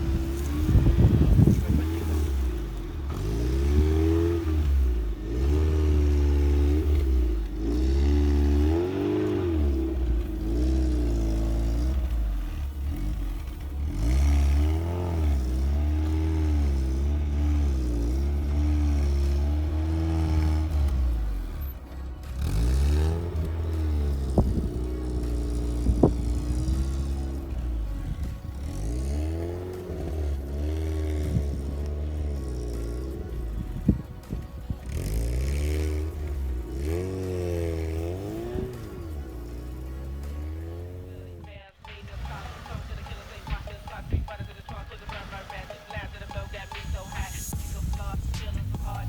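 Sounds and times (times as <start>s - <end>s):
off-road vehicle engine revving: 0.0s - 49.0s.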